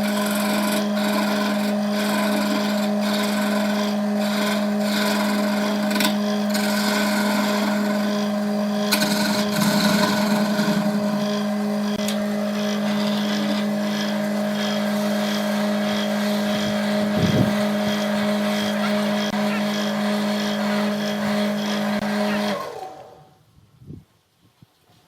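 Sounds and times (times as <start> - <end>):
tool rubbing spinning wood: 0.0 - 23.3
wood lathe motor hum: 0.0 - 23.3.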